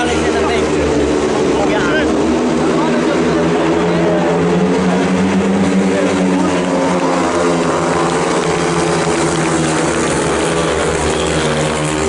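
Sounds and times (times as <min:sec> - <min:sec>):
motorcycle engines racing: 0:00.0 - 0:12.0.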